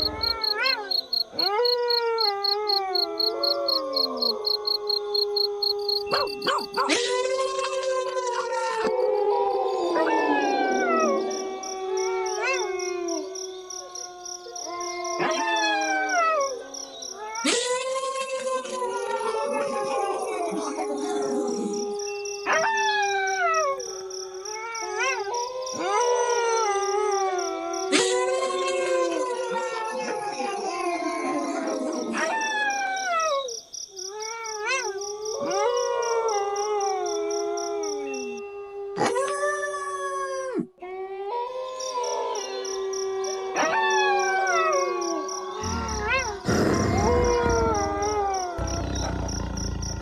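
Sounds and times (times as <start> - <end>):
wolves howling in chorus: 0.0 - 33.5, 34.6 - 50.0.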